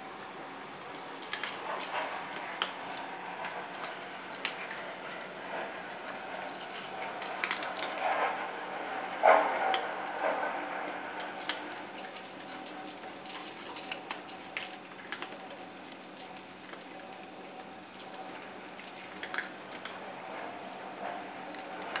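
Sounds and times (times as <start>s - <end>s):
cats crunching dry kibble: 0.0s - 22.0s
kibble clicking against bowl: 0.2s - 5.4s, 6.0s - 8.2s, 9.0s - 22.0s.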